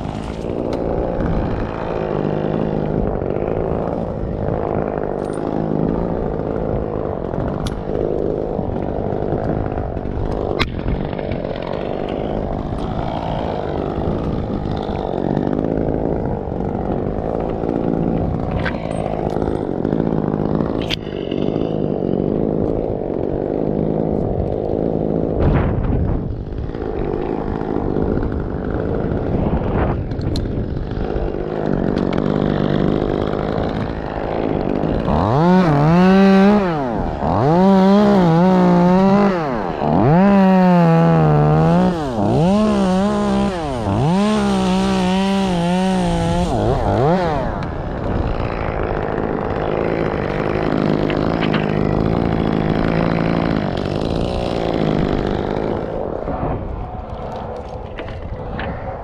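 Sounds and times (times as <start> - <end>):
chainsaw revving through wood: 0.0 - 59.0.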